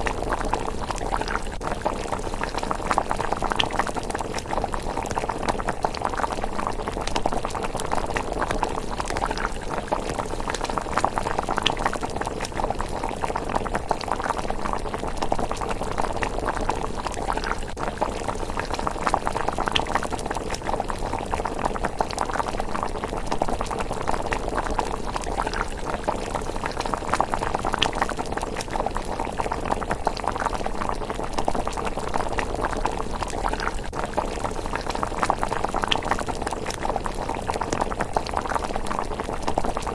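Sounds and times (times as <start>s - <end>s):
porridge bubbling in a pot: 0.0s - 39.9s.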